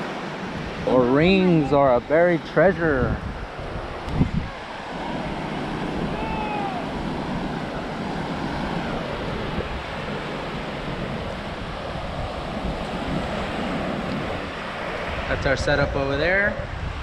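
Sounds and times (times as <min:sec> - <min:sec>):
waves breaking on beach: 0:00.0 - 0:17.0
wind noise on microphone: 0:00.0 - 0:17.0.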